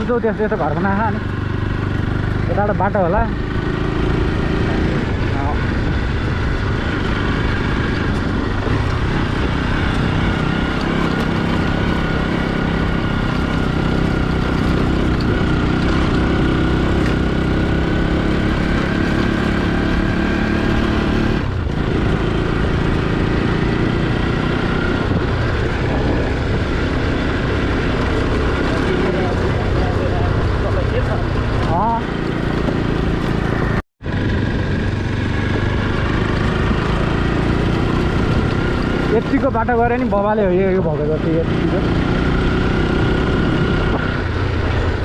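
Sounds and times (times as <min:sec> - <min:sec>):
motorcycle engine running: 0:00.0 - 0:45.0
wind rumble on microphone: 0:03.2 - 0:45.0.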